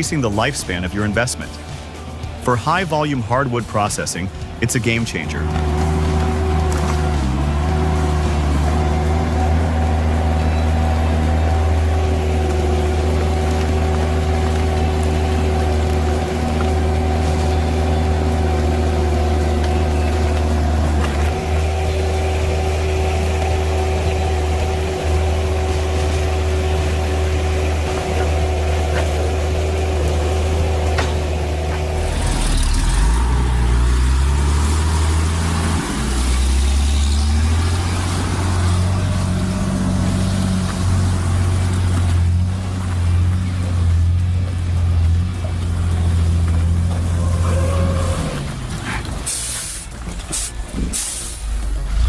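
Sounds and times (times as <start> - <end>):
uneven engine note rising and falling: 0.0 - 49.3, 49.9 - 52.0
heavy machinery engine running: 0.0 - 52.0.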